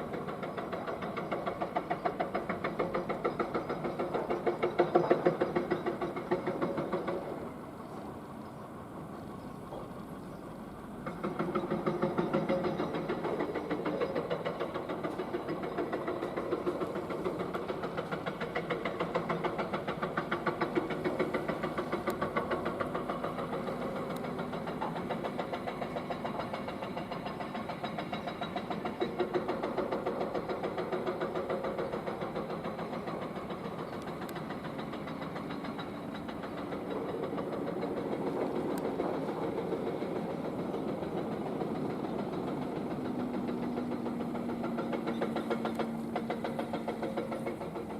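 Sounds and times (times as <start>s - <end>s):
excavator diesel engine knocking: 0.0s - 47.9s.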